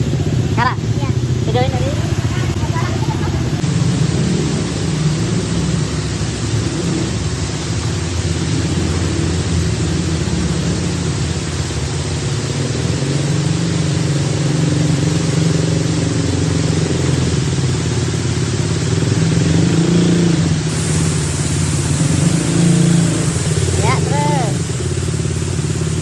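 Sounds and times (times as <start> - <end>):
atv engine running: 0.0 - 26.0
constant hiss: 0.0 - 26.0.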